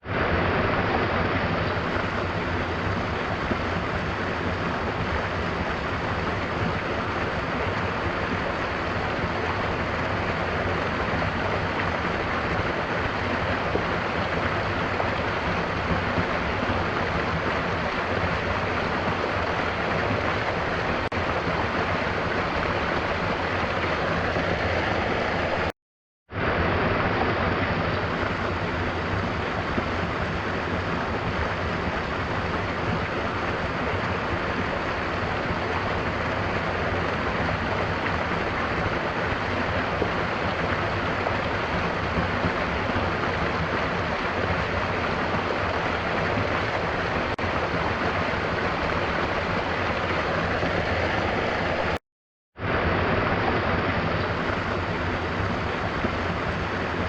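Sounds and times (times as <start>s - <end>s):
waterfall rushing: 0.0s - 25.7s, 26.4s - 52.0s, 52.6s - 57.0s.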